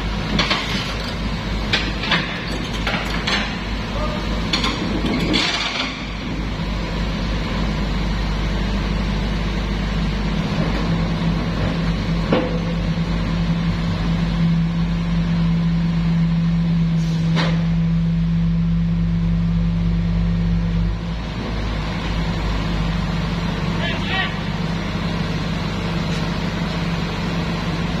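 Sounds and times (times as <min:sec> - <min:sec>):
excavator diesel engine droning: 0:00.0 - 0:05.2, 0:06.0 - 0:28.0.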